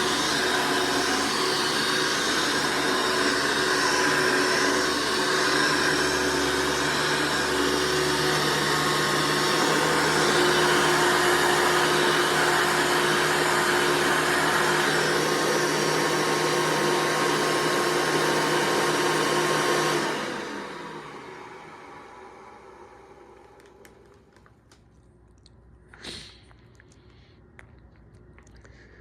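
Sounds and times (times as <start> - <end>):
vacuum cleaner whirring: 0.0 - 24.8.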